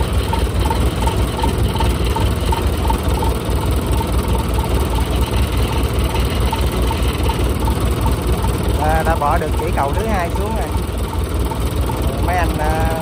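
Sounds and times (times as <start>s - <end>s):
combine harvester engine idling: 0.0s - 13.0s.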